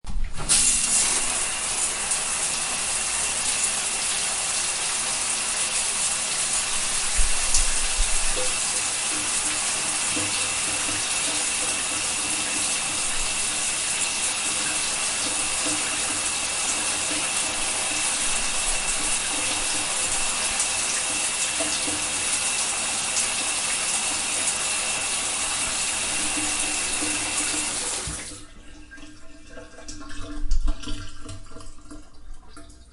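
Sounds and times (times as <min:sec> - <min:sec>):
shower water spray hissing: 0:00.4 - 0:28.4.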